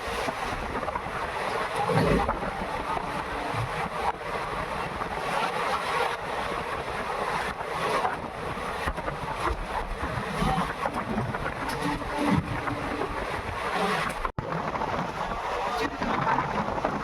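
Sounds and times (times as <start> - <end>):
train wind and running noise: 0.0 - 17.0.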